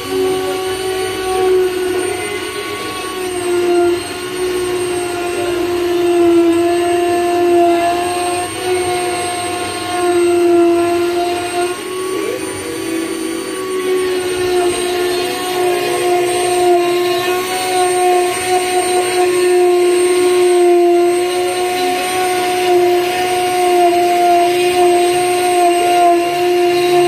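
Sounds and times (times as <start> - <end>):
cnc router whining engraving wood: 0.0 - 27.0.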